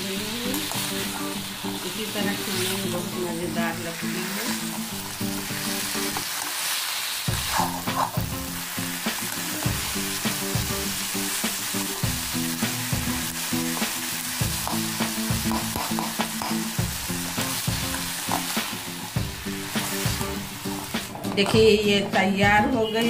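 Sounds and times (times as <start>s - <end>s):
leaves and potatoes sizzling: 0.0s - 23.0s.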